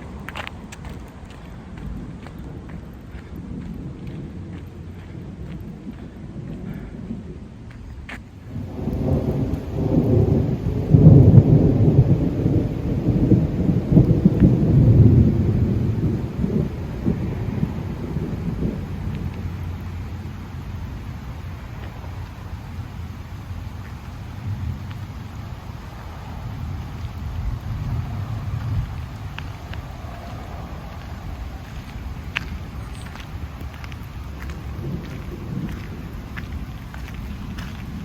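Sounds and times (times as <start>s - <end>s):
faint steady hiss: 0.0s - 38.0s
rain: 0.0s - 38.0s
thunder rumbling: 0.0s - 38.0s.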